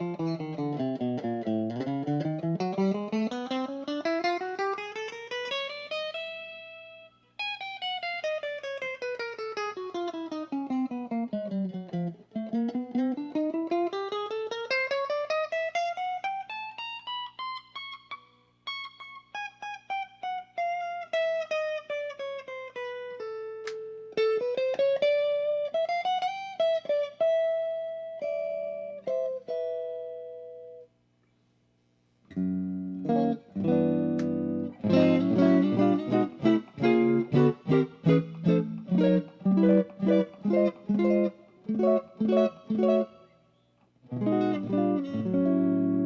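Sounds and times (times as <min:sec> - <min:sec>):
electric guitar playing: 0:00.0 - 0:30.9, 0:32.3 - 0:46.0.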